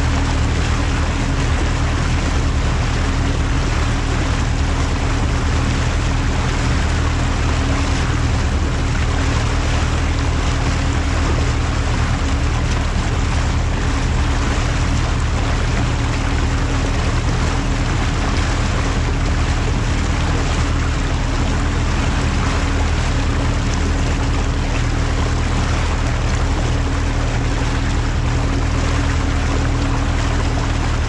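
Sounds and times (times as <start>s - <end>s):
outboard motor running: 0.0s - 31.0s
water rushing along hull: 0.0s - 31.0s.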